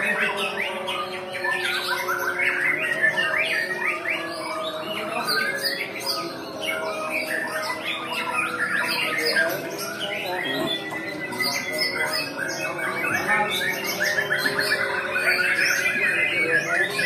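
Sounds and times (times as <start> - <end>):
caged songbirds singing: 0.0 - 17.0.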